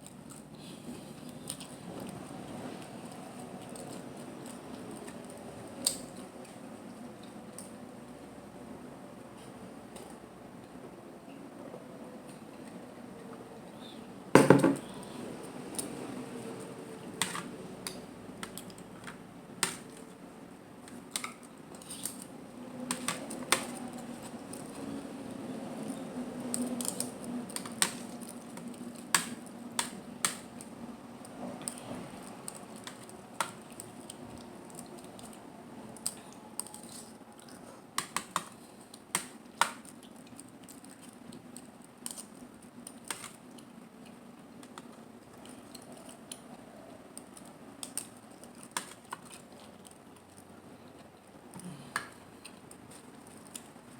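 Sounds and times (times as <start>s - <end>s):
soft chewing: 0.0s - 8.5s, 14.8s - 53.9s.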